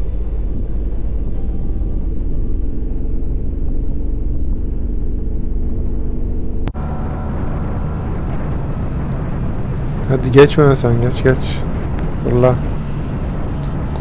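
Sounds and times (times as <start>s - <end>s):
motorcycle engine drone: 0.0s - 14.0s
wind rumble: 0.0s - 14.0s.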